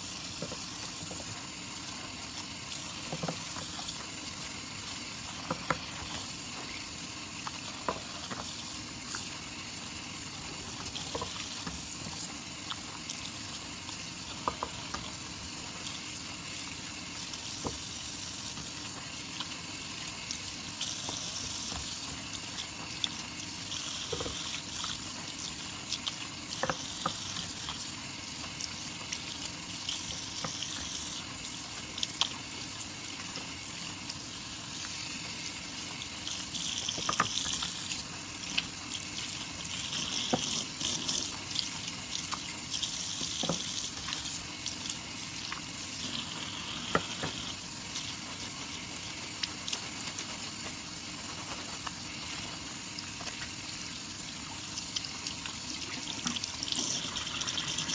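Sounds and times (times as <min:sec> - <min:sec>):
soap lather fizzing: 0:00.0 - 0:57.9.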